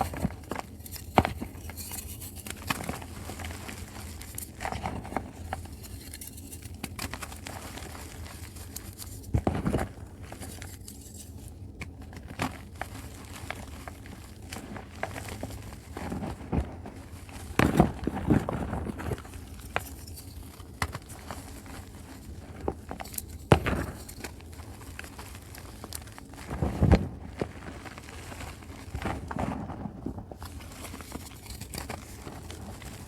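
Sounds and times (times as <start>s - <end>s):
chalk crunching and crumbling: 0.0s - 33.0s.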